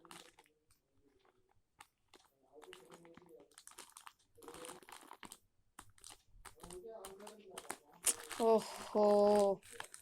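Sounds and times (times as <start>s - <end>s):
packaging clicks and crackles: 0.0s - 10.0s.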